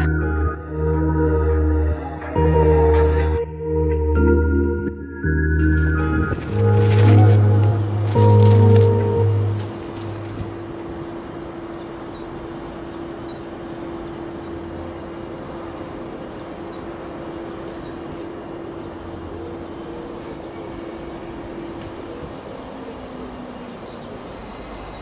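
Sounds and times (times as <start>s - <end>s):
electric train hum: 0.0s - 25.0s.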